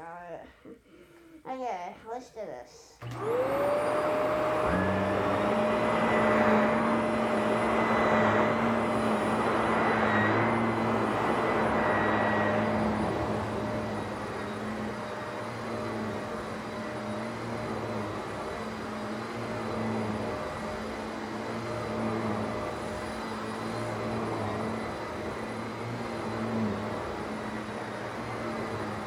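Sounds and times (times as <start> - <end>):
vacuum cleaner running: 3.0 - 29.0.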